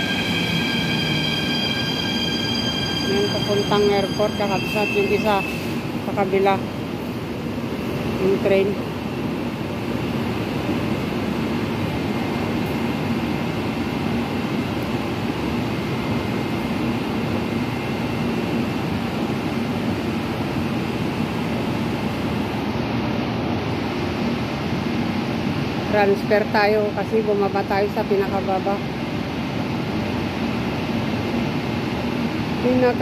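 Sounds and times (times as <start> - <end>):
metro train rumbling: 0.0 - 33.0.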